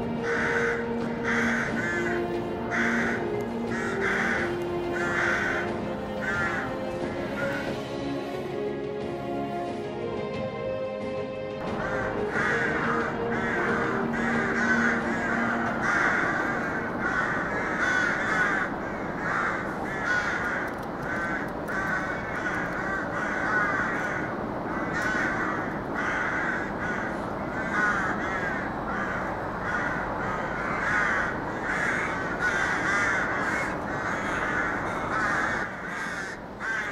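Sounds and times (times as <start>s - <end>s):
rooks cawing: 0.0s - 7.9s, 11.6s - 36.9s
faint music: 0.0s - 36.9s.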